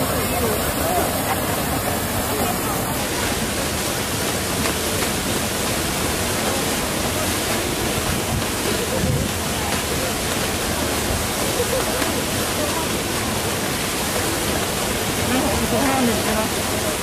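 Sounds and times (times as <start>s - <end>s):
water jet splashing into water: 0.0s - 17.0s.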